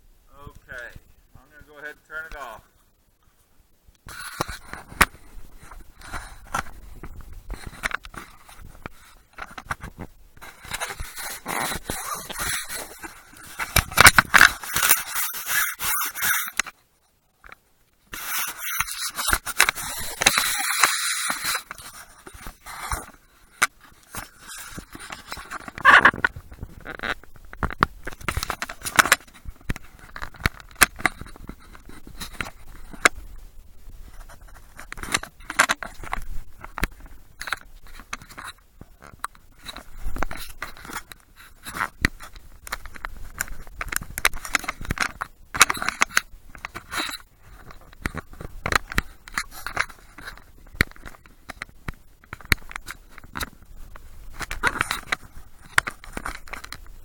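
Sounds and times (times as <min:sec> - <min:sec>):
camera being handled: 0:04.1 - 0:16.8, 0:17.5 - 0:33.4, 0:34.0 - 0:57.0.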